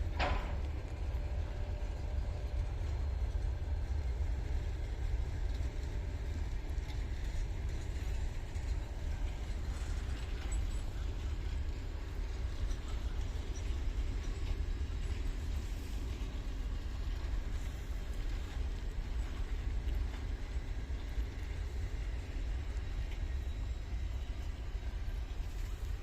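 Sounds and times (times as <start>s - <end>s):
train coaches rolling past: 0.0s - 26.0s.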